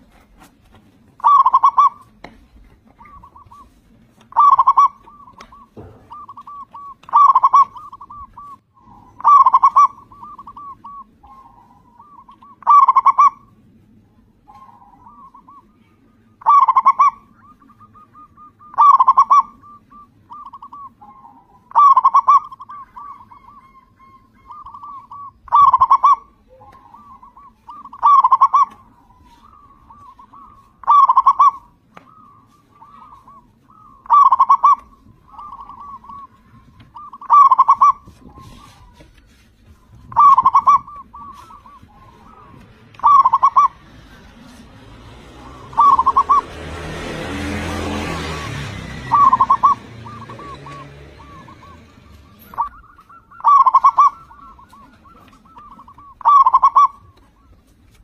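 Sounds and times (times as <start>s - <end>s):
dove cooing: 1.1s - 58.0s.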